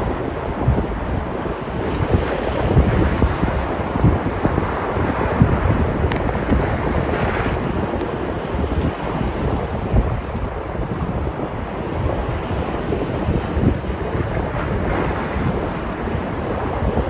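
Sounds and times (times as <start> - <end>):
sea surf breaking on shore: 0.0 - 17.0
wind buffeting microphone: 0.0 - 17.0.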